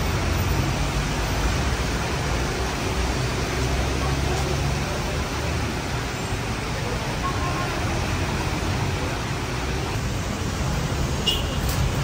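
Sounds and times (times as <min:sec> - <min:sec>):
rain hissing: 0:00.0 - 0:12.0
traffic on wet street: 0:00.0 - 0:12.0.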